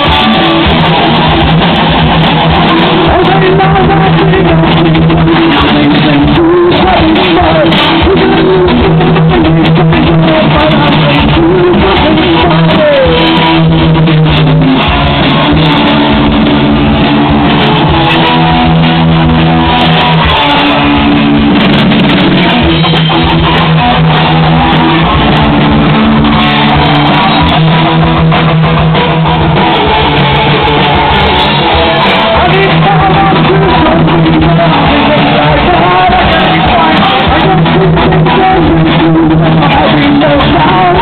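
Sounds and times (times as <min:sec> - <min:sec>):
bass guitar: 0:00.0 - 0:41.0
electric guitar: 0:00.0 - 0:41.0.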